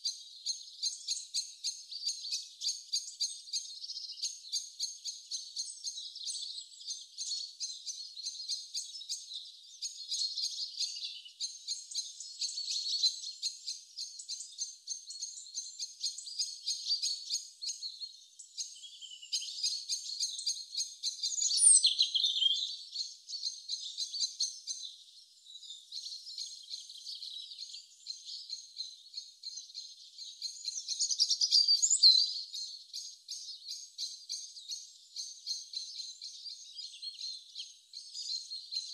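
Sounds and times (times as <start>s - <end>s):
birds chirping: 0.0s - 38.9s
swooping bird calls: 0.0s - 38.9s.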